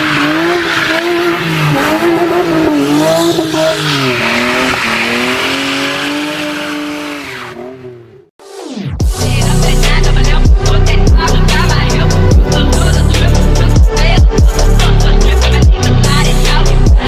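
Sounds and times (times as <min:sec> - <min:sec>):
tires screeching: 0:00.0 - 0:08.3, 0:09.8 - 0:16.9
car engine revving: 0:00.0 - 0:16.9.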